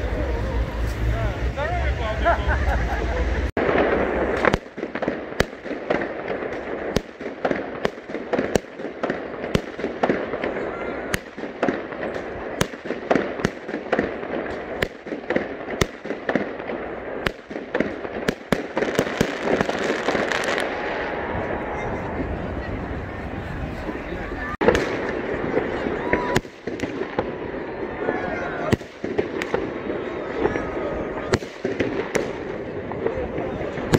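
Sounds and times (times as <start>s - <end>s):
distant fireworks rumble: 0.0s - 33.9s
fireworks bangs: 0.0s - 33.9s.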